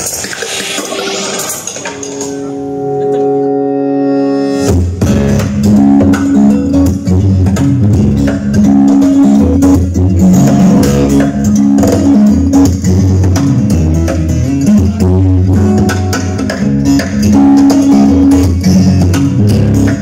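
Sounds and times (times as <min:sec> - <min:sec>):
band music over loudspeakers: 0:00.0 - 0:20.0
bass guitar line: 0:01.0 - 0:20.0.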